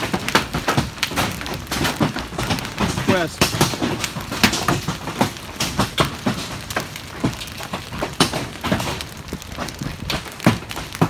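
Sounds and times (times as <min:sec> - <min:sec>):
hailstones striking: 0:00.0 - 0:11.0.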